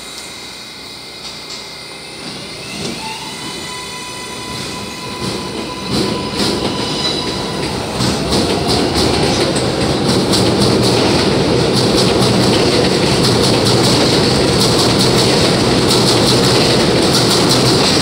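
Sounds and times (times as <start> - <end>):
train motor whine: 0.0 - 18.0
train wheels clacking on rails: 1.2 - 18.0.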